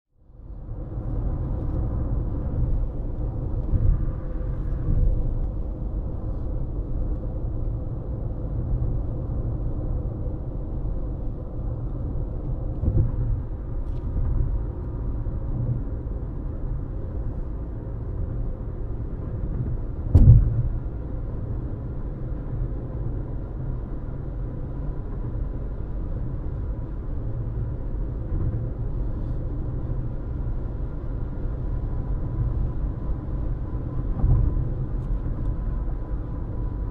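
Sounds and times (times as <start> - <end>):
car road rumble and tyre noise: 0.1 - 36.9.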